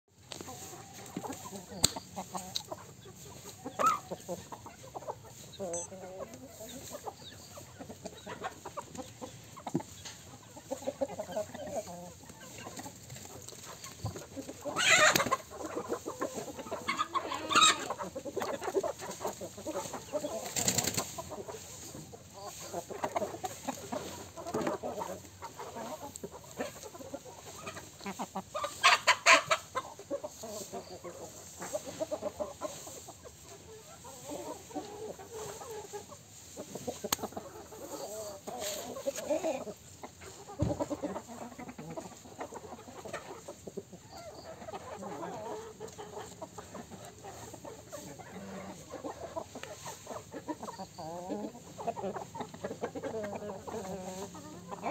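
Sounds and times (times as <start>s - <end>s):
chickens clucking: 0.1s - 54.9s.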